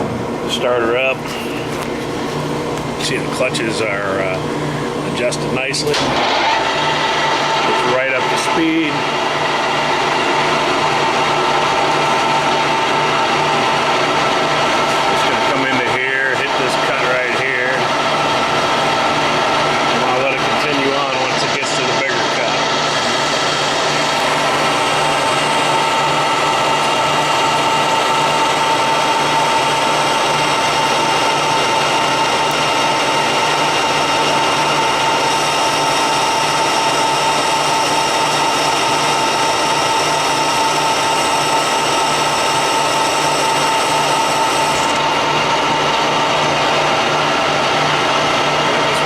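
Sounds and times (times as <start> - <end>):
lathe gearing whine: 0.0 - 49.0
lathe tool cutting: 5.0 - 49.0.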